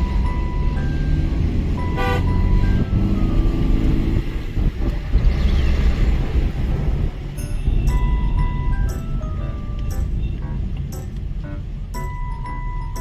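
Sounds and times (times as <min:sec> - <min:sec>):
background music: 0:00.0 - 0:13.0
car driving rumble: 0:00.0 - 0:13.0.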